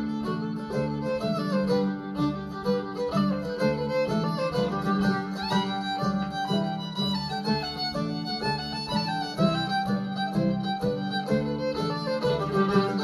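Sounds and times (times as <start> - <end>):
fiddle music: 0.0 - 13.0.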